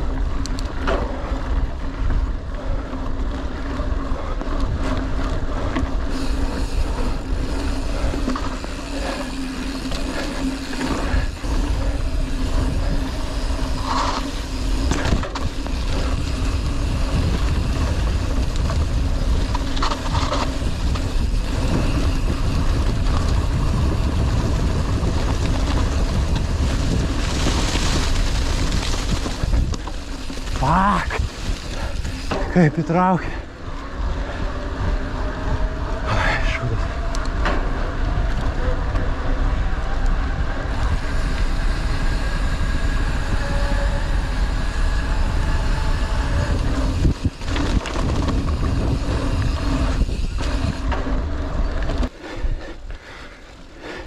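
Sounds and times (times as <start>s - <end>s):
bike rattles: 0.0s - 54.0s
wind and tyre rumble: 0.0s - 54.0s.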